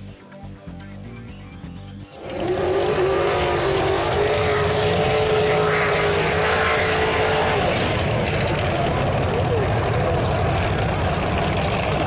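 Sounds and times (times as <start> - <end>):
race car engine fast idle: 2.3 - 12.0.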